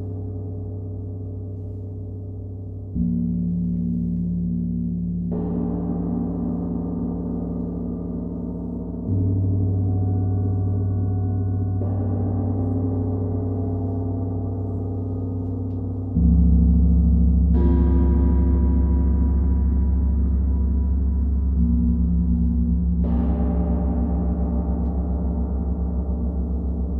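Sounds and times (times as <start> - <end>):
gong humming drone: 0.0 - 26.9.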